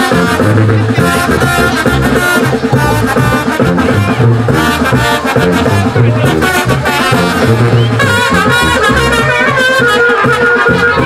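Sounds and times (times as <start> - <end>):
steady drum beat: 0.0 - 11.0
wind instruments playing melody: 0.0 - 11.0.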